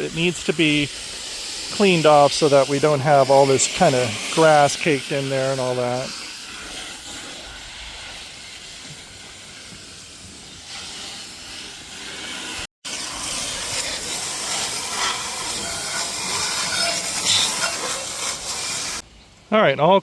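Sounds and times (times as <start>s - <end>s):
hose water spraying: 0.0s - 19.0s.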